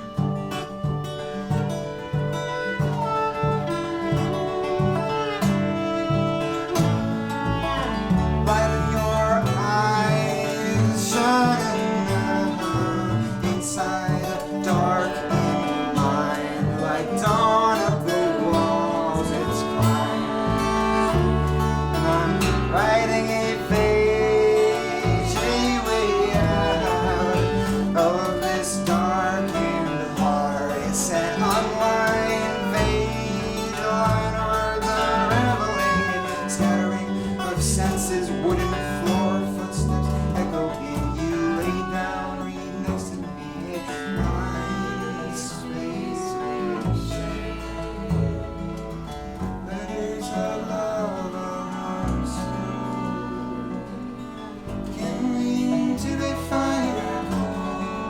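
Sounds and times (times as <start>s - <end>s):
acoustic guitar: 0.0s - 58.0s
bass: 0.0s - 58.0s
bowed viola: 0.0s - 58.0s.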